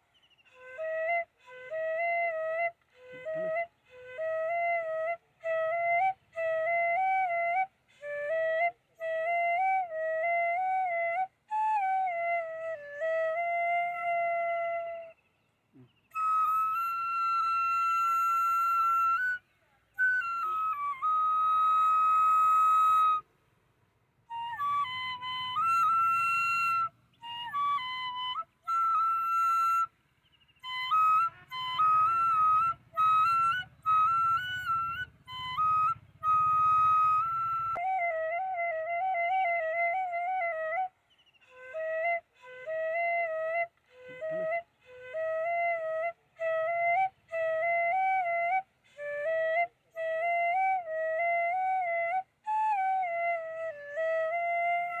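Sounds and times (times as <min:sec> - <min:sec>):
solo flute melody: 0:00.0 - 0:55.0.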